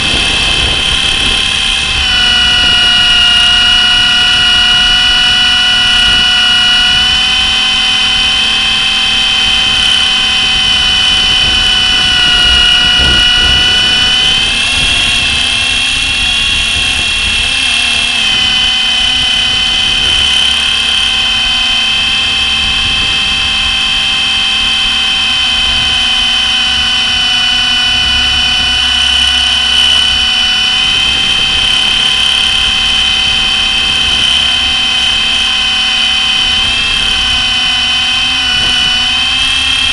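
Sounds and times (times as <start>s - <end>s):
rc helicopter motor whine: 0.0s - 39.9s
wind buffeting rumble: 0.0s - 39.9s.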